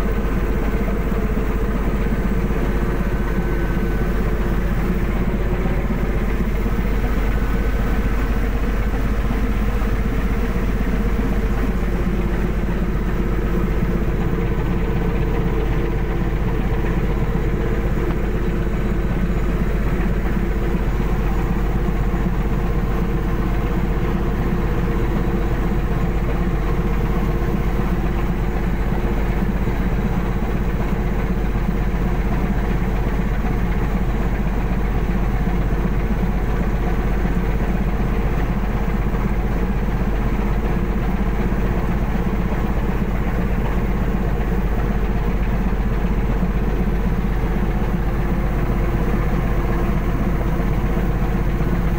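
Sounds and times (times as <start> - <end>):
boat engine low drone: 0.0 - 51.9.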